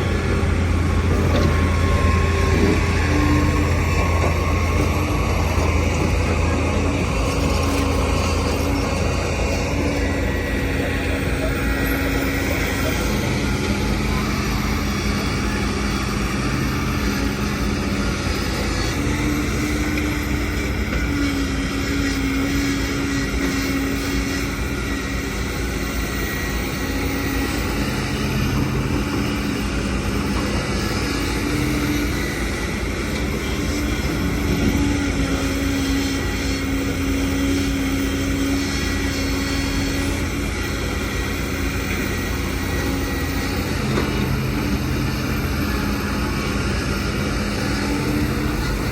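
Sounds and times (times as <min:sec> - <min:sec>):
excavator and trucks diesel engines: 0:00.0 - 0:48.9.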